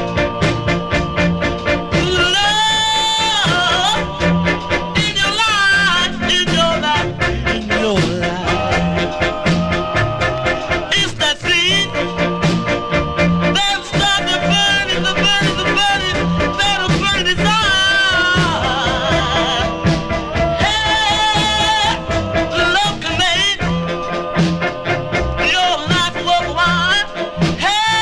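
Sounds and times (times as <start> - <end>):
band backing: 0.0 - 28.0
vocal group harmony singing: 0.0 - 28.0.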